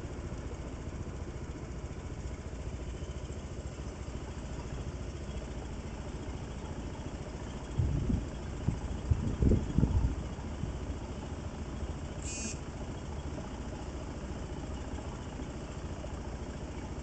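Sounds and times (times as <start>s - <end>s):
low engine rumble: 0.0s - 17.0s
vehicle engine idling: 0.0s - 17.0s.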